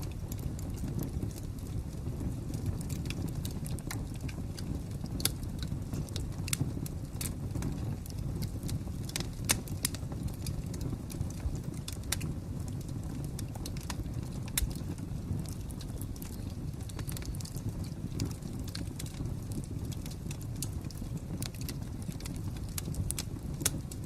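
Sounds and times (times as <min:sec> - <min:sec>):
fire crackling and popping: 0:00.0 - 0:24.0
low fire rumble: 0:00.0 - 0:24.0.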